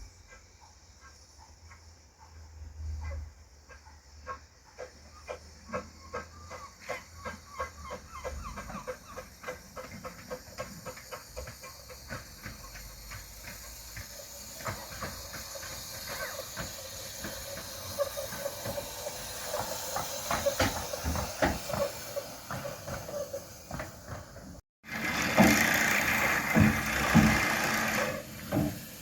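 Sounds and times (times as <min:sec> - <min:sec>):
train wheels clicking over rail joints: 0:00.0 - 0:29.0
steam hissing: 0:04.1 - 0:29.0.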